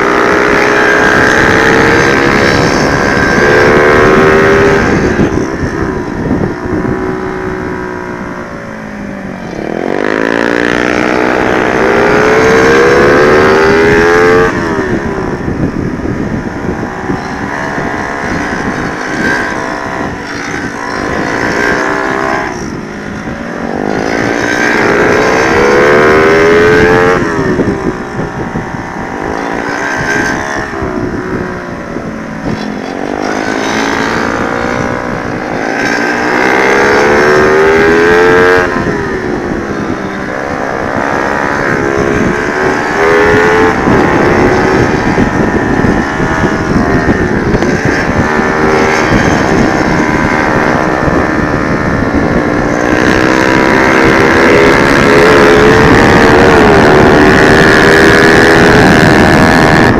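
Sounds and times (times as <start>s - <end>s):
motorcycle engine at full throttle: 0.0s - 59.9s
wind buffeting microphone: 0.0s - 59.9s.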